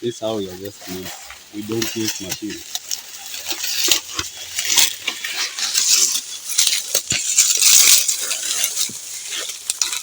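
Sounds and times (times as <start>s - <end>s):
dry leaves rustling and crackling: 0.2s - 10.0s.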